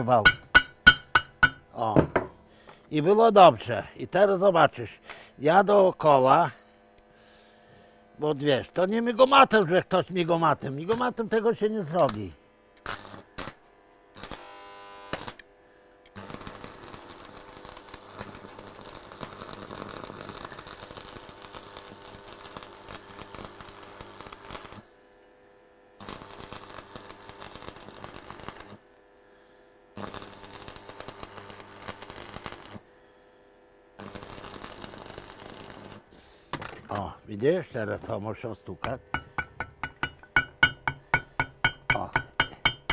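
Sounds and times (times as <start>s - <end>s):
arc welding crackling and sizzling: 0.0s - 1.9s, 8.3s - 42.9s.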